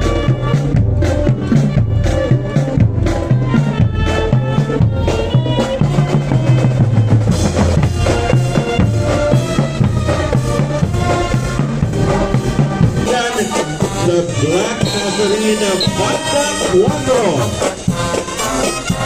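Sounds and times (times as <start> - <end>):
bass drum and snare beats: 0.0 - 19.0
marching band brass: 0.0 - 19.0.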